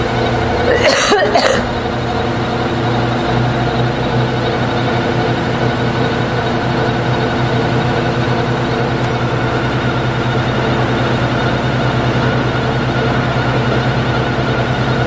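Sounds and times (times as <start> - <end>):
mixer motor humming: 0.0 - 15.0.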